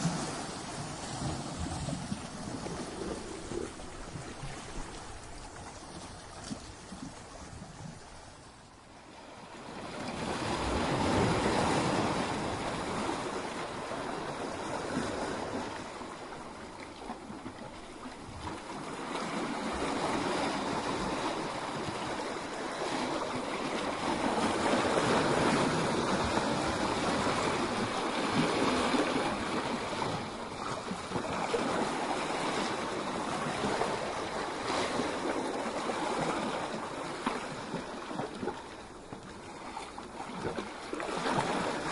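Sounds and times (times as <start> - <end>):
waves breaking against rocks: 0.0 - 41.9.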